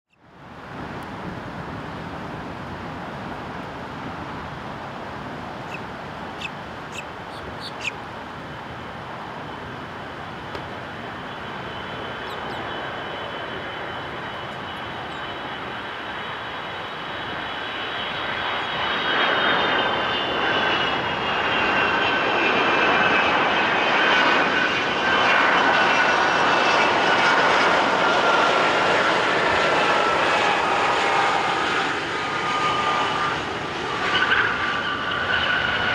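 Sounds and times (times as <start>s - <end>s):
jet engine rumble: 0.2s - 35.9s
high jet whine falling in pitch: 5.1s - 35.9s.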